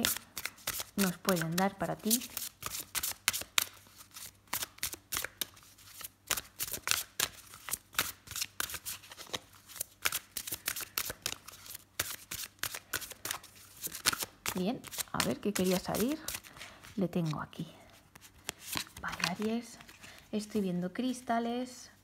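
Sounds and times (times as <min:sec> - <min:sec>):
cards being shuffled: 0:00.0 - 0:21.2.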